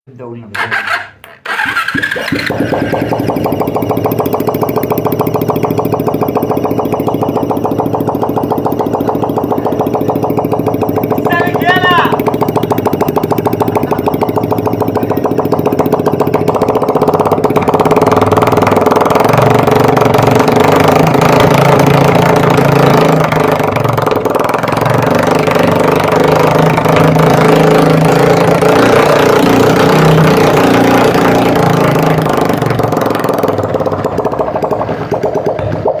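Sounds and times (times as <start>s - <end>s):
motorcycle engine running: 0.5s - 36.0s.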